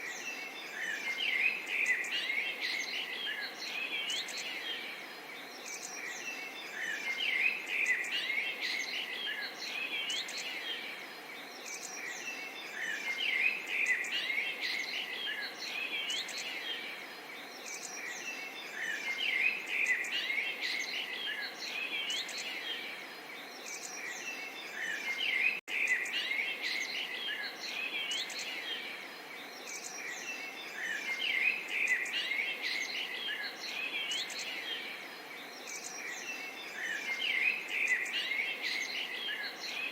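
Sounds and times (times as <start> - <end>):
small songbirds twittering: 0.0 - 39.9.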